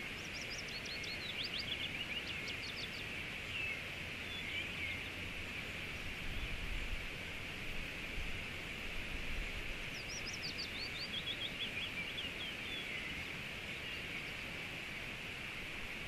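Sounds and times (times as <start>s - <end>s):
flowing river water: 0.0s - 16.0s
songbird singing: 0.0s - 16.0s.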